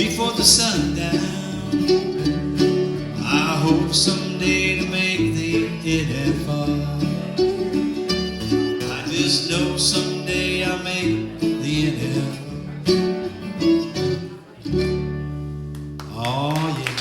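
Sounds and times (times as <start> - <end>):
acoustic bluegrass band playing: 0.0 - 17.0.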